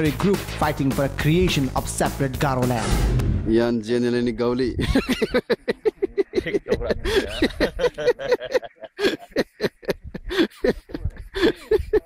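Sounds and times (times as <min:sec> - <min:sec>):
people talking: 0:00.0 - 0:08.6, 0:10.7 - 0:12.0.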